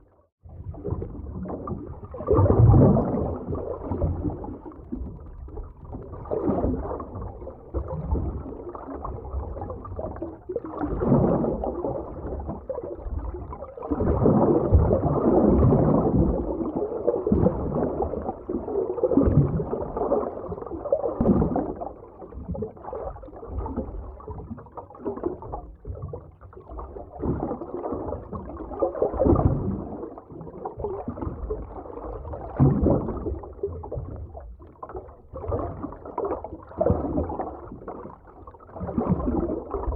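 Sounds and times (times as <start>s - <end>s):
gurgling bubbles: 0.0s - 39.9s
muffled surging water: 0.0s - 39.9s.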